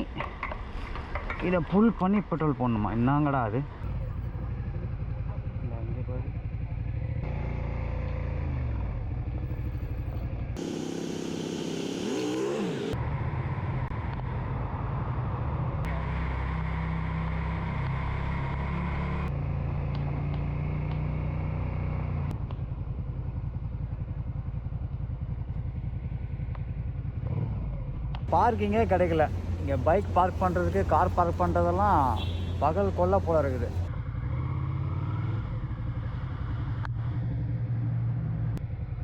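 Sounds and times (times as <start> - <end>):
road and wind noise: 0.0 - 39.0
motorcycle engine running: 3.7 - 39.0.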